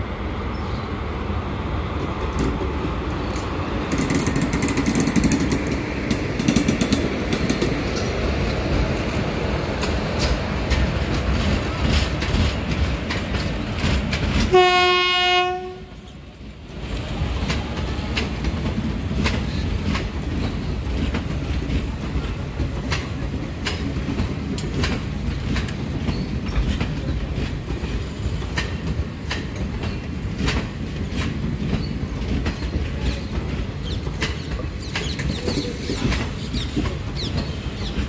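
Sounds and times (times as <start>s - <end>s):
train wheels rumbling on rail: 0.0s - 38.0s
clickety-clack over rail joints: 2.0s - 38.0s.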